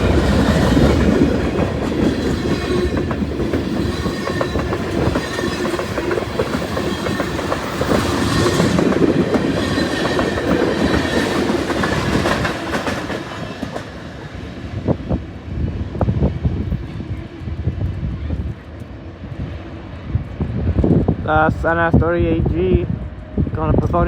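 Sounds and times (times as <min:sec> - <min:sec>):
freight train rumble: 0:00.0 - 0:24.0.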